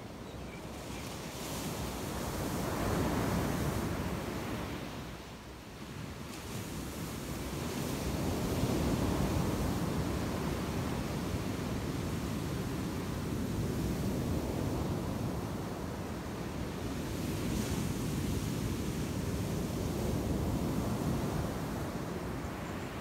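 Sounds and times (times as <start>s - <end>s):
ocean surf breaking on a beach: 0.1s - 23.0s.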